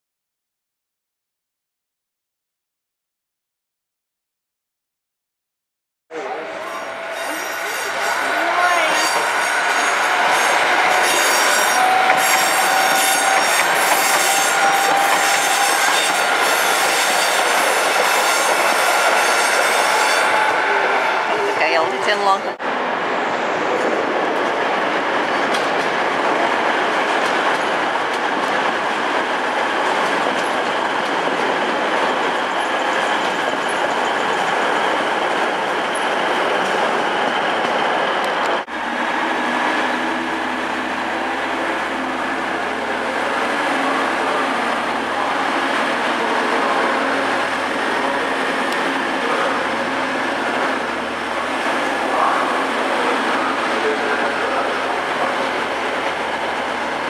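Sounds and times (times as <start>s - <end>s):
train diesel engines running: 6.1s - 57.0s.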